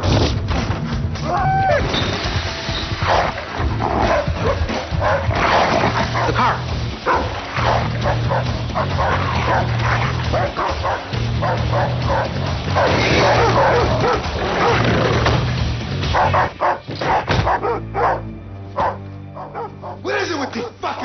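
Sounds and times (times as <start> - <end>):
dogs barking: 3.0 - 15.2, 16.0 - 20.8.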